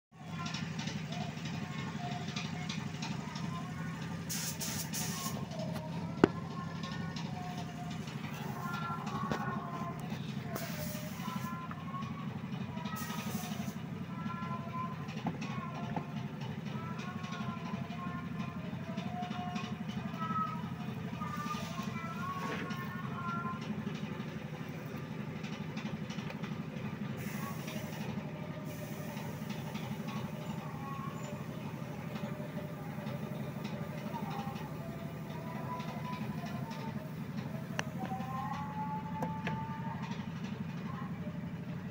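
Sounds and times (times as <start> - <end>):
engine idling: 0.2 - 41.9
faint voices: 0.2 - 41.9.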